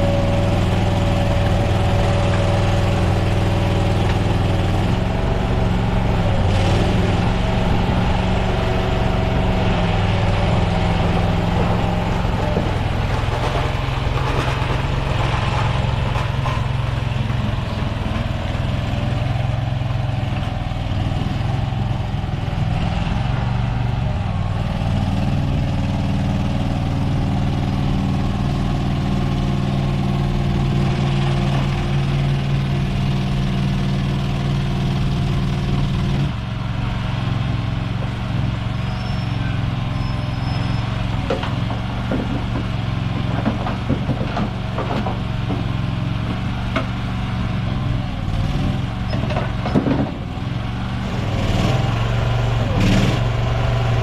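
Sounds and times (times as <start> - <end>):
skid steer engine running: 0.0 - 54.0.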